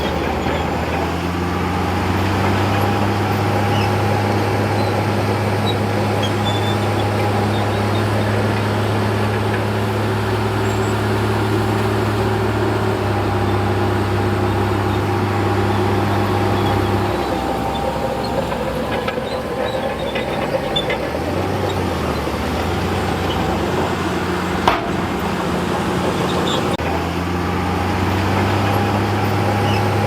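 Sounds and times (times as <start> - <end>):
heavy diesel machine engine: 0.0 - 30.0.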